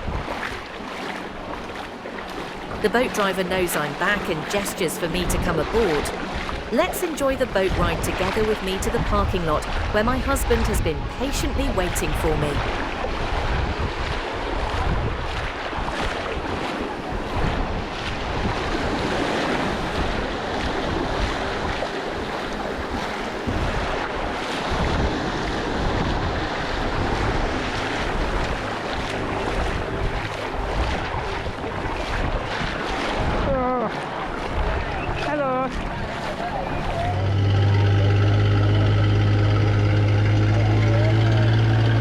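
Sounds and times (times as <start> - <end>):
wind buffeting microphone: 0.0 - 3.6, 4.2 - 42.0
boat motor running: 0.0 - 42.0
water rushing past hull: 0.0 - 42.0.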